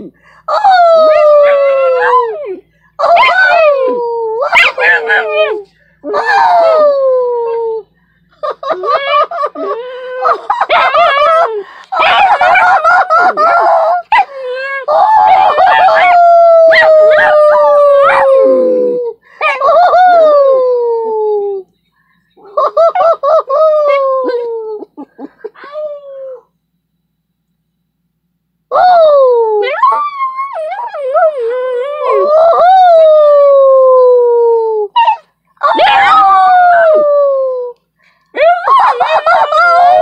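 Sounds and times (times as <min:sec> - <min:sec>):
small dog howling: 0:00.0 - 0:07.8, 0:10.2 - 0:21.6, 0:22.4 - 0:24.8, 0:28.7 - 0:37.8, 0:38.4 - 0:40.0.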